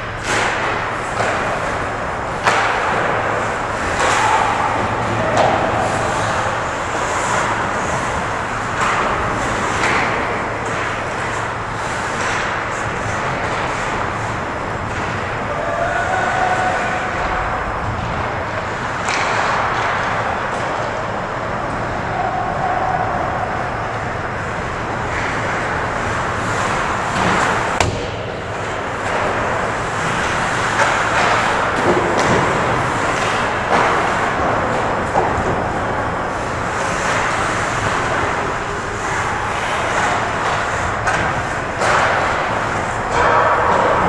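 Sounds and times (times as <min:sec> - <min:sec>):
hockey sticks and puck clacking: 0:00.0 - 0:23.0, 0:23.9 - 0:44.0
skates scraping ice: 0:00.2 - 0:20.9, 0:25.1 - 0:44.0.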